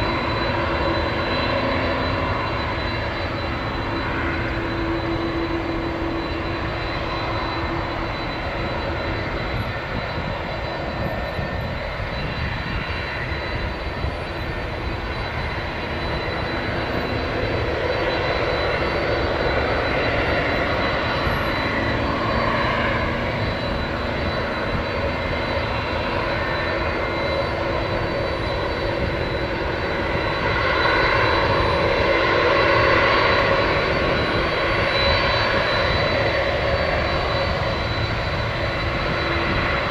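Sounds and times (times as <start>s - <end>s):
jet engines taxiing: 0.0s - 39.9s.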